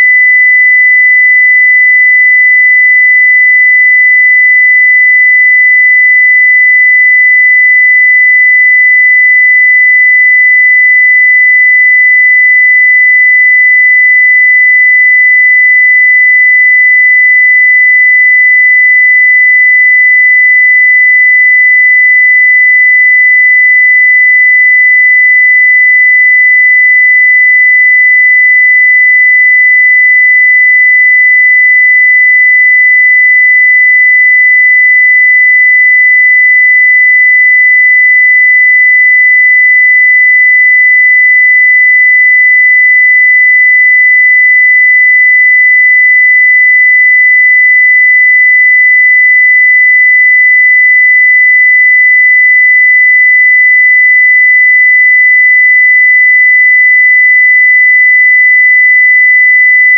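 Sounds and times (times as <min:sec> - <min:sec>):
sine-wave test tone: 0:00.0 - 0:59.9.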